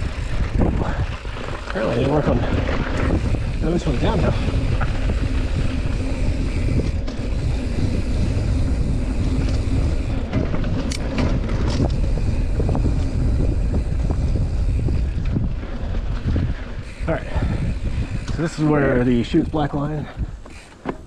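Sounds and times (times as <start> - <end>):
bike clicks and rattles: 0.0 - 21.0
bike tyres rumbling over dirt: 0.0 - 21.0
wind buffeting microphone: 0.0 - 21.0.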